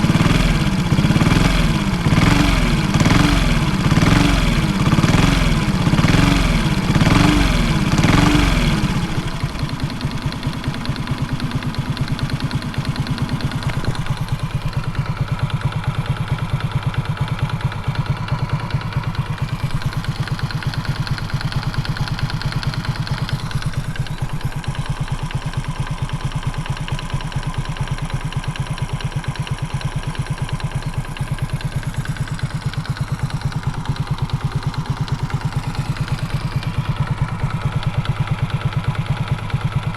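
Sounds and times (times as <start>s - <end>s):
engine knocking: 0.0s - 39.9s
engine revving and idling: 0.0s - 39.9s.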